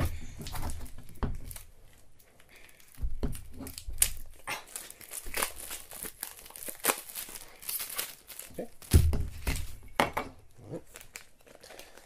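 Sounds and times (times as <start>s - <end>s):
plastic shrink wrap crinkling: 0.0s - 12.0s.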